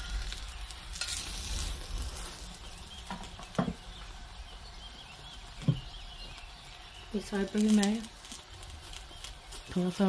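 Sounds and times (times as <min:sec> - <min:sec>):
flatbread sizzling in ghee: 0:00.0 - 0:10.0.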